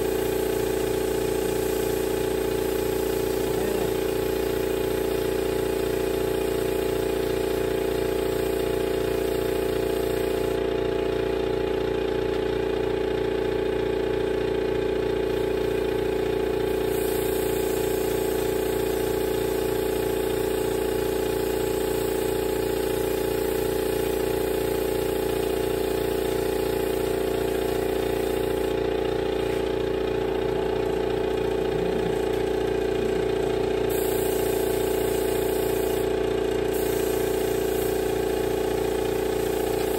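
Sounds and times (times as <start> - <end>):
spray gun air hiss: 0.0 - 10.6, 15.3 - 39.9
air compressor humming: 0.0 - 39.9.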